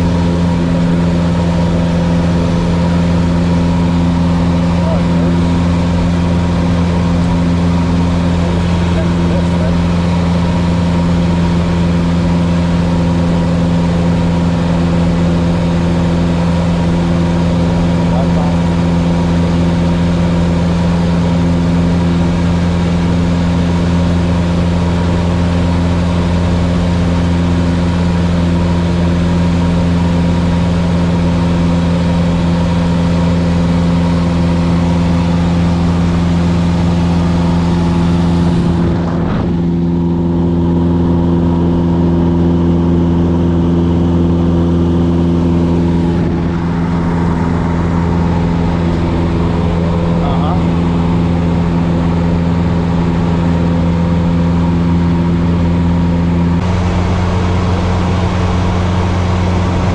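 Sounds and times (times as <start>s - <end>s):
airplane engine droning: 0.0s - 59.9s.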